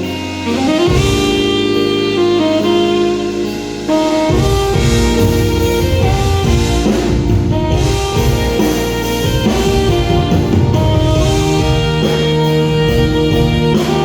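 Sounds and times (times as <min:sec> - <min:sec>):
bass guitar: 0:00.0 - 0:14.0
drums: 0:00.0 - 0:14.0
electric guitar: 0:00.0 - 0:14.0
saxophone: 0:00.0 - 0:14.0.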